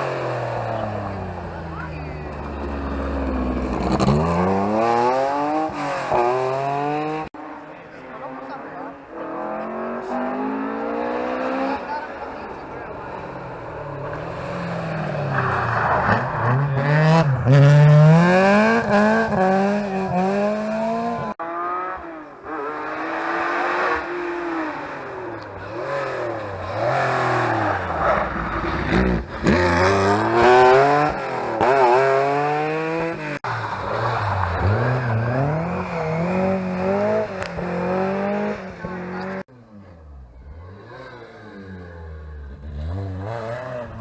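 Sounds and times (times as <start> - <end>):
rally car engines revving high: 0.0 - 44.0.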